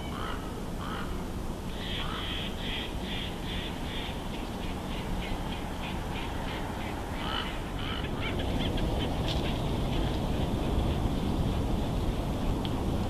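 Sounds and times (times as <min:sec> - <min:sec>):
bird calls: 0:00.0 - 0:12.6
wind rumble on microphone: 0:00.0 - 0:13.0.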